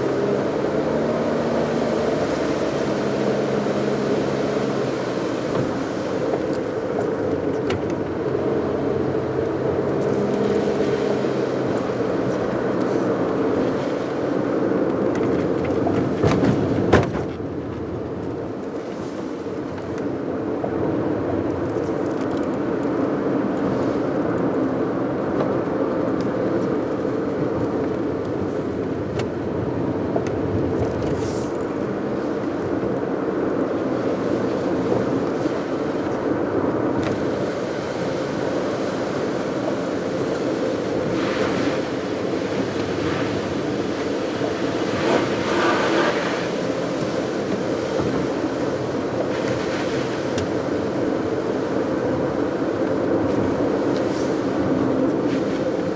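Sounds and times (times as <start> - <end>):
car driving on wet road: 0.0 - 55.9.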